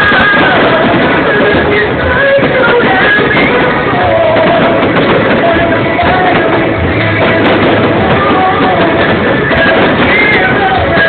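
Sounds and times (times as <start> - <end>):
loud live band accompaniment: 0.0 - 11.0
man singing long notes: 0.0 - 11.0.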